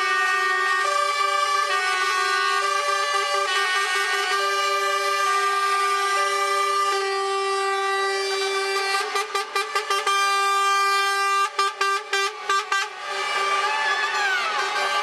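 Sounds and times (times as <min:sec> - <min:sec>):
truck air horns blaring: 0:00.0 - 0:15.0.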